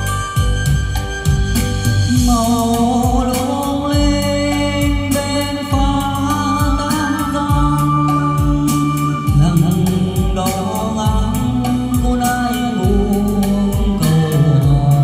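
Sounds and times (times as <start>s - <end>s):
instrumental music with low beat: 0.0s - 15.0s
person singing: 2.1s - 15.0s.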